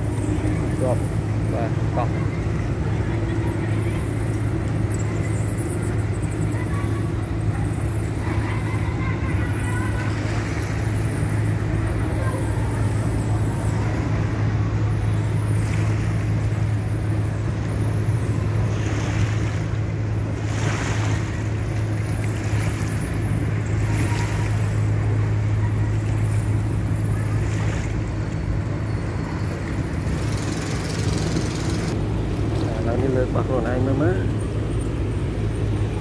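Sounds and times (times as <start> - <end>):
low engine drone: 0.0 - 36.0
water noise: 0.0 - 36.0.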